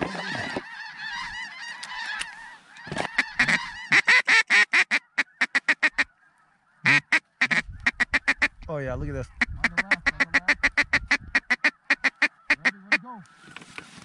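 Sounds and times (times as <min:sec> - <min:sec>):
duck call quacks: 0:00.0 - 0:06.1, 0:06.8 - 0:08.5, 0:09.4 - 0:13.3
geese chattering: 0:00.0 - 0:08.6, 0:09.3 - 0:13.8.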